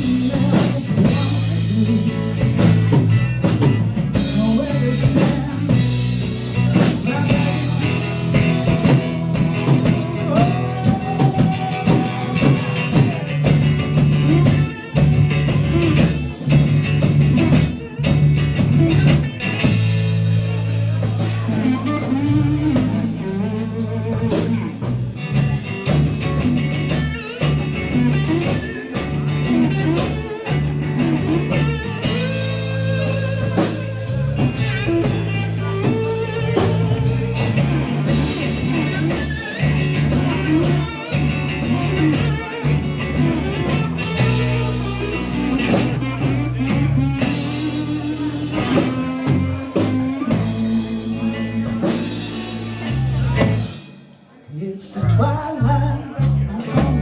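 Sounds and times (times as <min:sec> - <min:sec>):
bending guitar lead: 0:00.0 - 0:57.0
rock band playing: 0:00.0 - 0:57.0.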